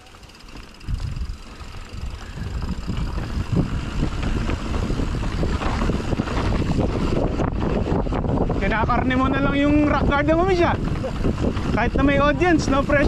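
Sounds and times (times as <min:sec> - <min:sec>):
bike rattling and knocking: 0:00.0 - 0:13.0
bike tyres rumbling on dirt: 0:00.0 - 0:13.0
wind on microphone: 0:00.8 - 0:13.0.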